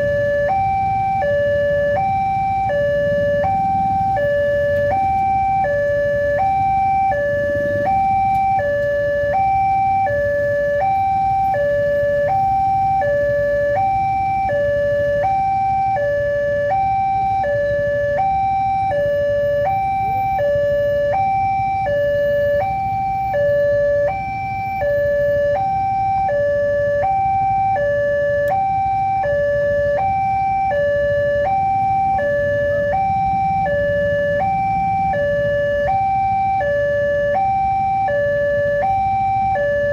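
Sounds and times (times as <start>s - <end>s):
level crossing alarm two tones: 0.0s - 39.9s.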